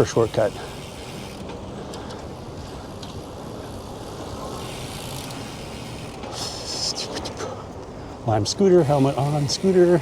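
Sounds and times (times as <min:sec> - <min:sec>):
traffic noise: 0:00.0 - 0:10.0.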